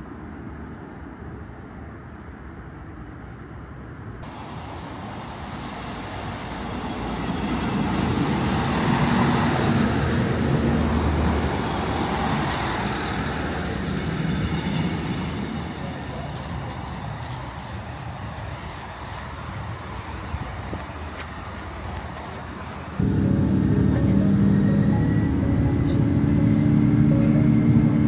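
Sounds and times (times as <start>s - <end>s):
diesel train passing: 3.9s - 28.0s.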